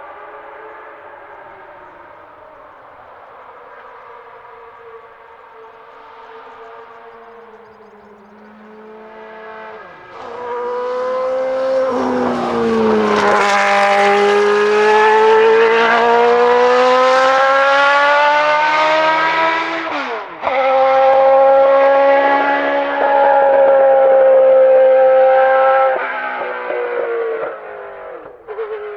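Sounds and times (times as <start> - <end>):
racing car engine at full throttle: 0.0 - 28.9.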